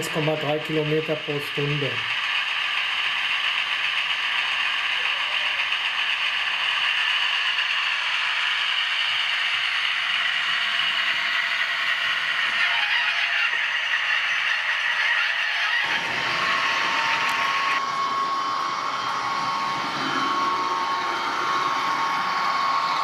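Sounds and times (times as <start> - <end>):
model train motor whirring: 0.0 - 23.0.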